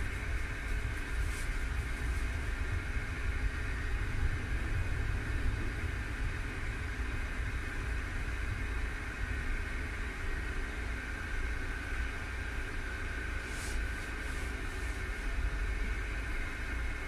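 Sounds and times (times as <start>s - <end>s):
street traffic: 0.0s - 17.0s
tram interior rumble and hum: 0.0s - 17.0s.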